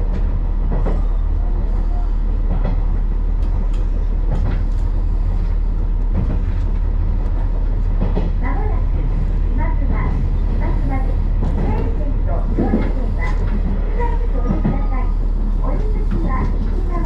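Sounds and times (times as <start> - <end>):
railcar running drone: 0.0 - 17.0.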